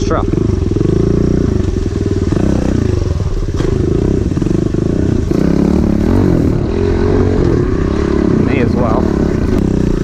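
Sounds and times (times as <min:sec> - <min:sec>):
pit bike engine revving: 0:00.0 - 0:10.0.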